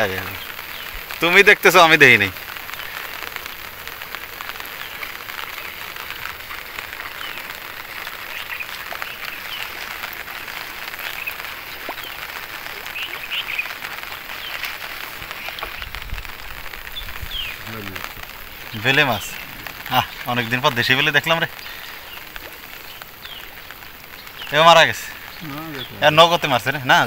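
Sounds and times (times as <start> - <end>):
rain falling on water: 0.0 - 27.0.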